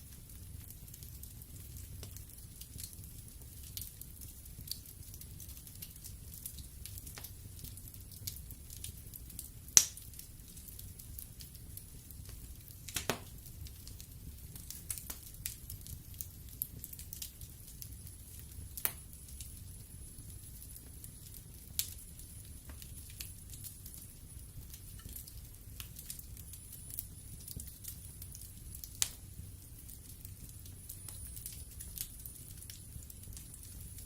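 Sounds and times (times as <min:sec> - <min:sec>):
flames rumbling: 0:00.0 - 0:34.0
logs crackling and popping: 0:00.0 - 0:34.0.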